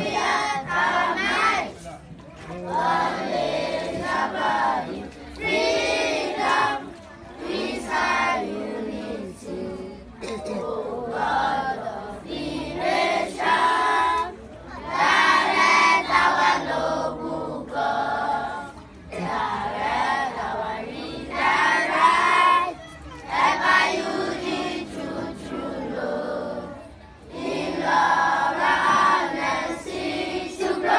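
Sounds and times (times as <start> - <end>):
children singing in unison: 0.0 - 1.7, 2.7 - 30.9.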